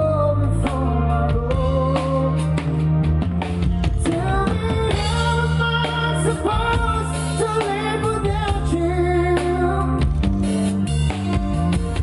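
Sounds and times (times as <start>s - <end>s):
lead singer singing: 0.0s - 10.3s
live band playing: 0.0s - 12.0s.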